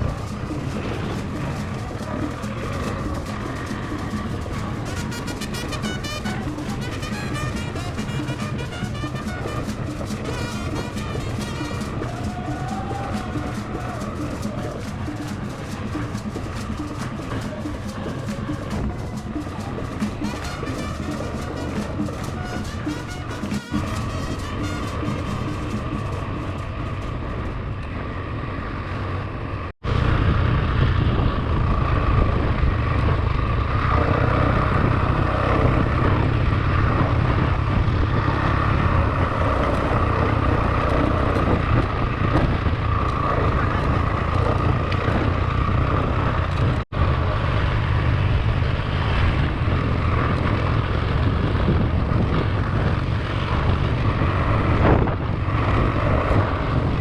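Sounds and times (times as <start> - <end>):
motorcycle engine running: 0.0 - 29.3, 30.0 - 57.0
wind rush: 0.0 - 57.0.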